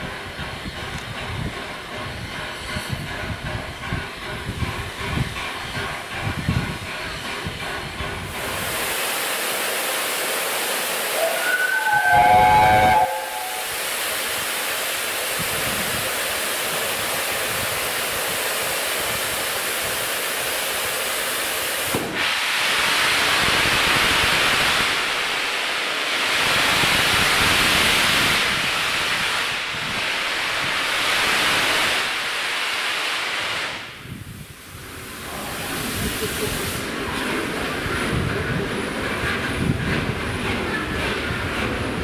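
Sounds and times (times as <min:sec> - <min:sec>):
steam locomotive hissing: 0:00.0 - 0:42.0.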